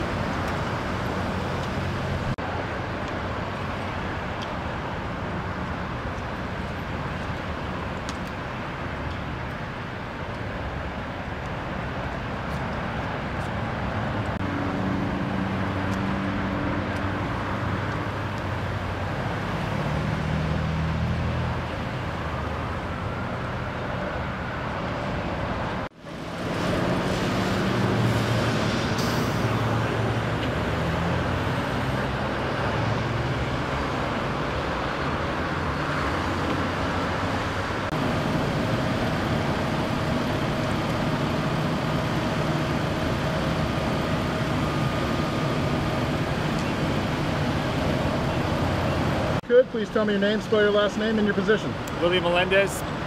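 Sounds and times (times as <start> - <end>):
freeway traffic passing: 0.0 - 53.0.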